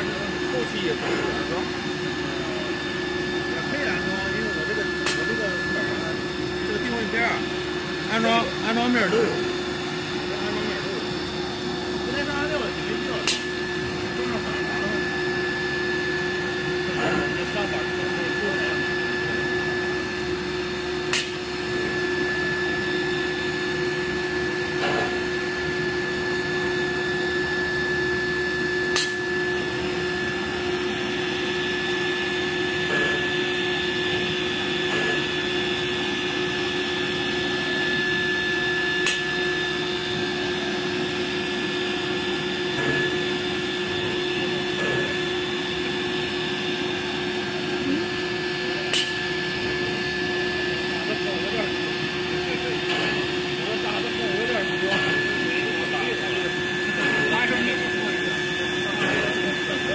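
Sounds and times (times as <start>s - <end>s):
router machine whine and drone: 0.0s - 59.9s.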